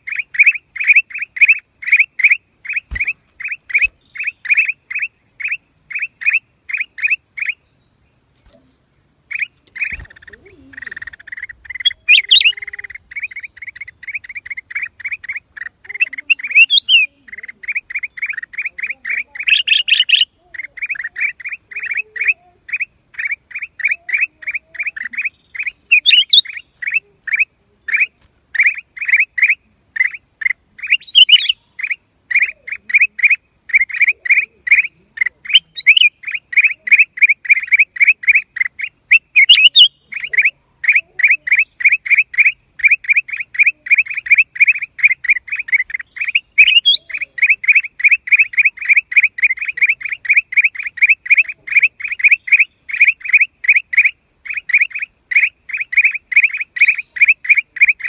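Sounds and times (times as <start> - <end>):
bulbul calling: 0.0 - 7.7, 8.4 - 58.0.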